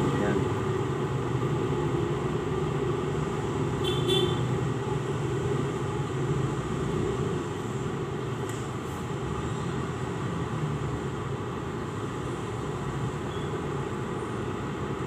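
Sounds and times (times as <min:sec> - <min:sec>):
vehicle traffic rumble: 0:00.0 - 0:15.0.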